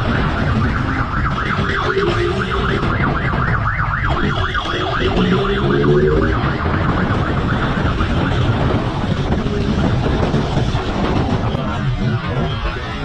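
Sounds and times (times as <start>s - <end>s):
engine and road rumble: 0.0s - 13.0s
police siren yelping: 0.0s - 13.0s.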